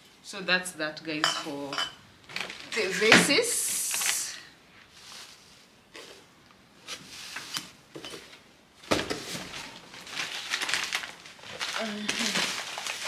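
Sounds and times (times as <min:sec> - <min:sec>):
cardboard and plastic rustling: 0:02.3 - 0:13.0.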